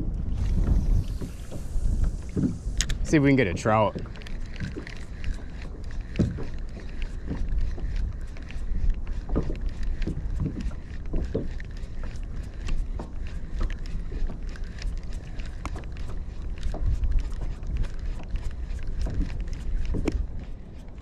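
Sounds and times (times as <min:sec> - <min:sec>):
water slapping kayak hull: 0:00.0 - 0:20.8
wind buffeting microphone: 0:00.0 - 0:21.0.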